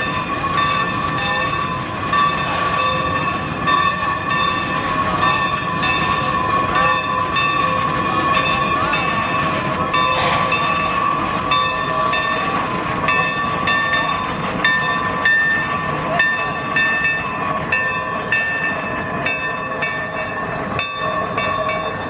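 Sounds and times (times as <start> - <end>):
steady high-pitched ring: 0.0 - 22.0
steam locomotive working: 0.0 - 22.0.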